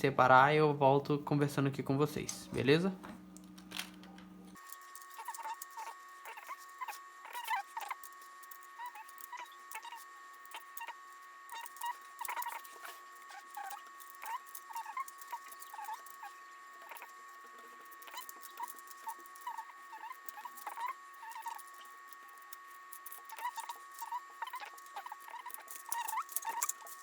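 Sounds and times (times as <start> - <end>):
high squeaky chirps: 4.6 - 27.0.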